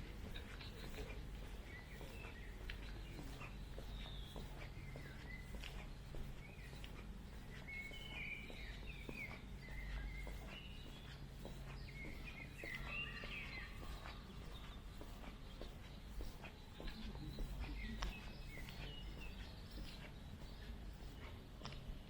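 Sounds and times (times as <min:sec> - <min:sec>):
footsteps on a path: 0:00.0 - 0:22.0
songbirds singing and chirping: 0:00.0 - 0:22.0.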